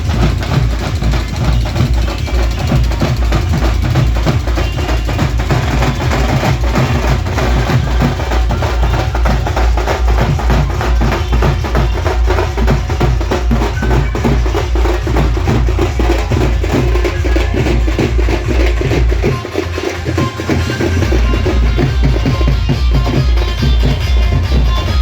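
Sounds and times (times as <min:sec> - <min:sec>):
loud dance music with heavy bass: 0:00.0 - 0:25.0
percussion: 0:00.0 - 0:25.0.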